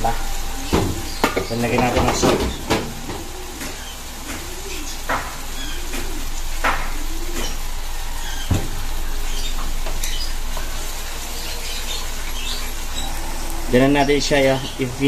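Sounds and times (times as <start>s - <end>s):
sauce sizzling and bubbling in pan: 0.0s - 15.0s.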